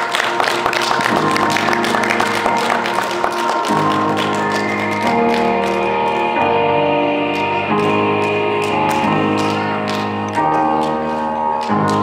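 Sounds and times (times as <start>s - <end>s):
sustained instrumental chords: 0.0s - 12.0s.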